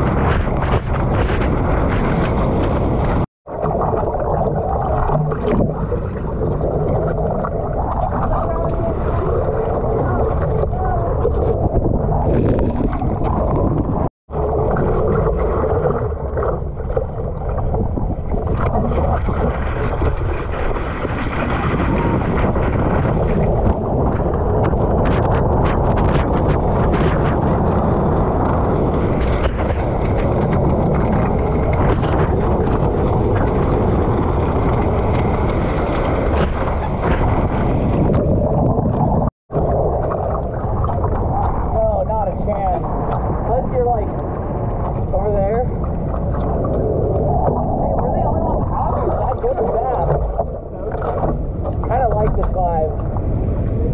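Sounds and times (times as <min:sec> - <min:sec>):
wind buffeting microphone: 0:00.0 - 0:04.6, 0:05.2 - 0:53.9
churning ocean water: 0:00.0 - 0:53.9.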